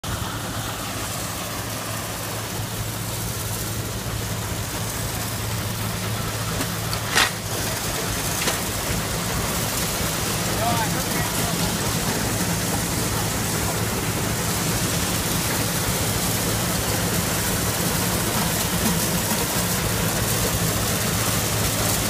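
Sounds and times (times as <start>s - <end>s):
steam engine mechanical drone: 0.0s - 22.0s.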